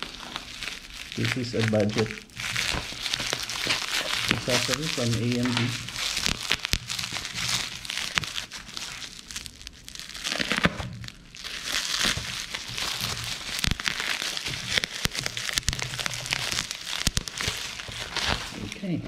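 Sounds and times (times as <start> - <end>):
bubble wrap crinkling: 0.0 - 19.0
sharp crackles: 0.0 - 19.0.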